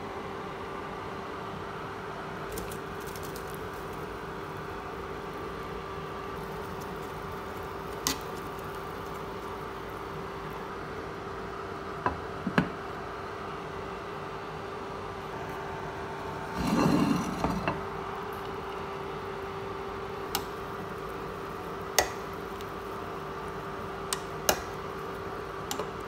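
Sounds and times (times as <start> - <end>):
induction cooktop hum and hiss: 0.0 - 26.0.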